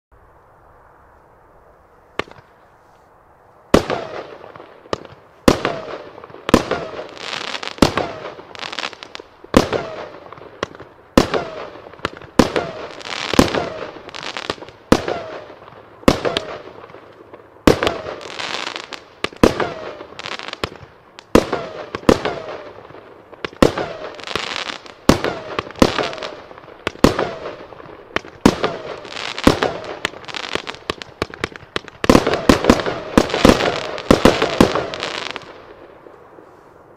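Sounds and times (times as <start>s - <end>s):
firework shots and bursts: 3.7s - 17.0s, 17.6s - 36.0s.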